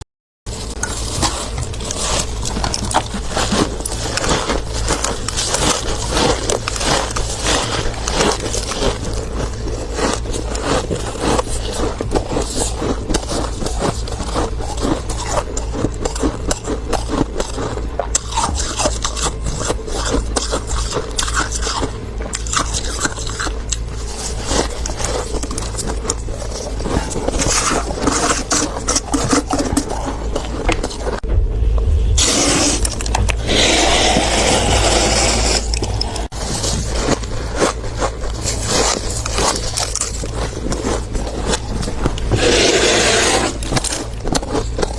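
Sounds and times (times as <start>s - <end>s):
freezer frost scraping and crunching: 0.5s - 44.9s.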